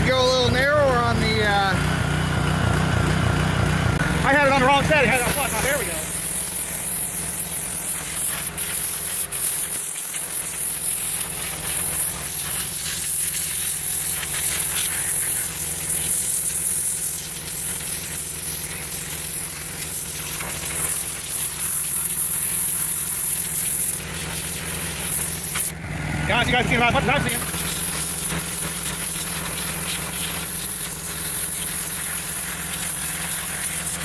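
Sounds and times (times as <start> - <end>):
high-pressure water jet hissing: 0.0 - 34.0
pressure washer engine droning: 0.0 - 34.0.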